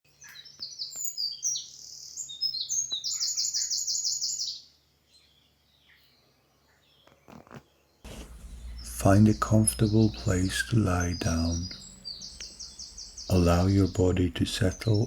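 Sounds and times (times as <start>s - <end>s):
faint distant bird chirps: 0.1s - 15.0s
songbird singing with trill: 0.2s - 7.1s, 8.1s - 15.0s.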